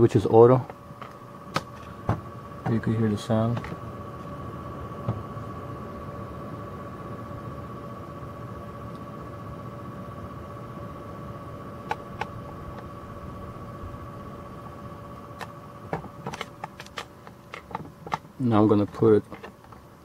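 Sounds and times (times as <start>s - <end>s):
computer fans whirring with whine: 0.0s - 20.0s.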